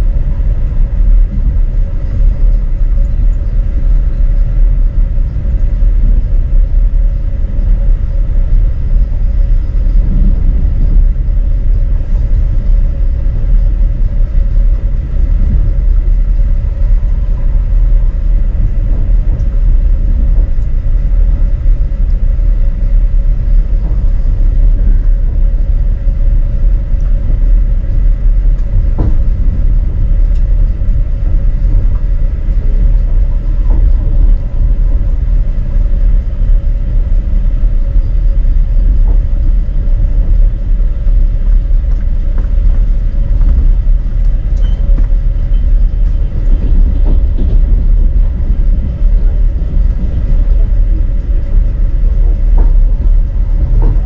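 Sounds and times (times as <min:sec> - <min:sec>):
faint constant hum: 0:00.0 - 0:54.0
train running rumble: 0:00.0 - 0:54.0.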